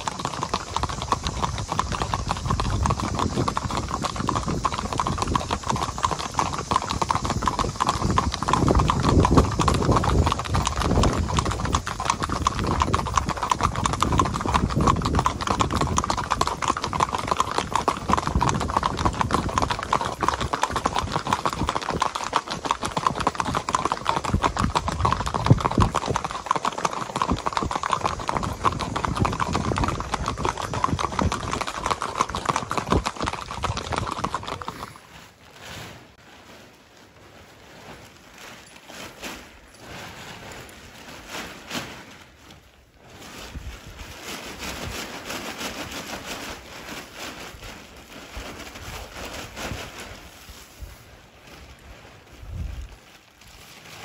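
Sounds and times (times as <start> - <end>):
mule hooves clip-clopping on concrete: 0.0 - 54.0.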